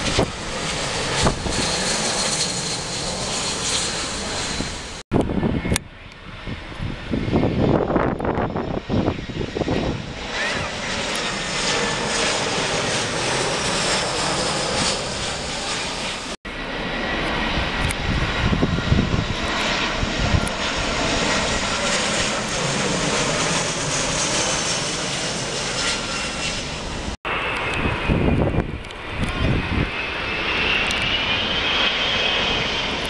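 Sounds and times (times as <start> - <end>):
jet airliner passing low: 0.0 - 33.0.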